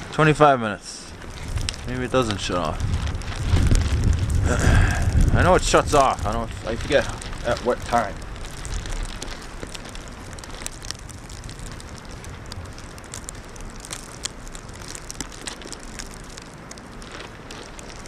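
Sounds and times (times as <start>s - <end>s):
small crackles and ticks: 0.0s - 18.0s
wind: 0.0s - 18.0s.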